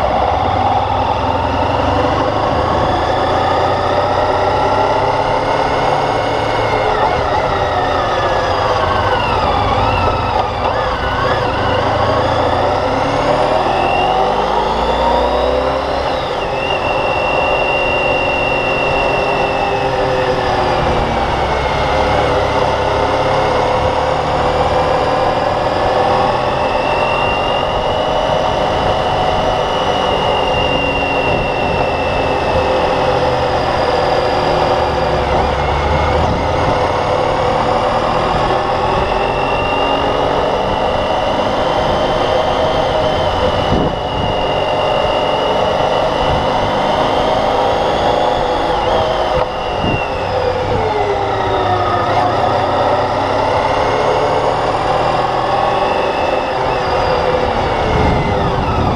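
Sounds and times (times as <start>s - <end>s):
motorcycle engine revving: 0.0s - 58.9s
wind and road noise: 0.0s - 58.9s.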